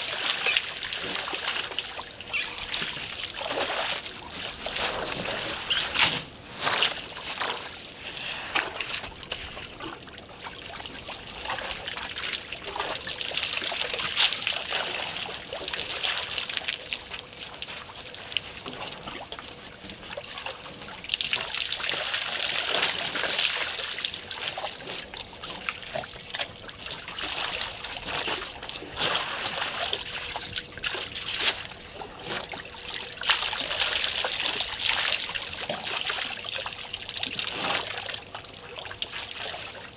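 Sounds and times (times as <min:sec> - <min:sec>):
elephants drinking water: 0:00.0 - 0:10.3, 0:11.2 - 0:39.9.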